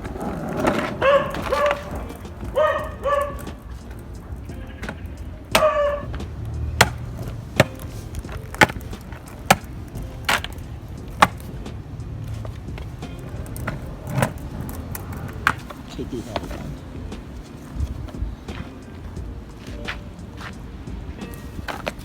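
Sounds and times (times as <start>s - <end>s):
skateboard wheels clacking on joints: 0.0s - 22.0s
skateboard wheels rumbling: 0.0s - 22.0s.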